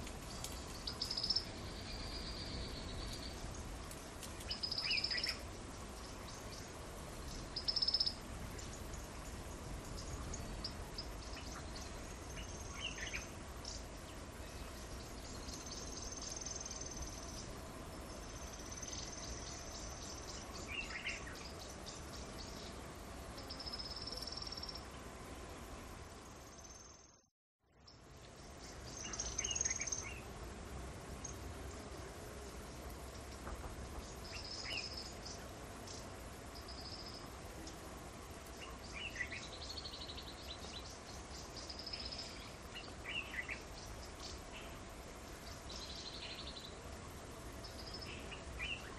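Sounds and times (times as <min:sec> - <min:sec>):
outdoor background noise: 0:00.0 - 0:48.9
bird chirp: 0:00.2 - 0:03.7, 0:04.3 - 0:22.8, 0:26.5 - 0:30.3, 0:32.6 - 0:37.8, 0:38.5 - 0:46.8, 0:47.6 - 0:48.9.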